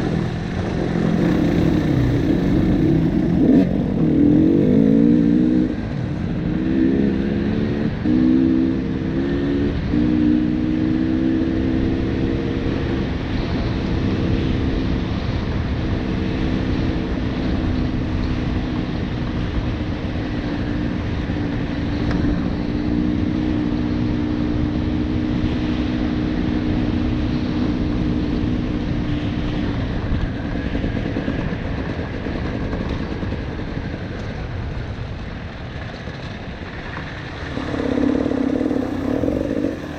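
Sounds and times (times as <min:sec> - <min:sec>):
dirt bike engine running: 0:00.0 - 0:12.3, 0:16.7 - 0:39.9
wind and terrain rumble: 0:00.0 - 0:39.9.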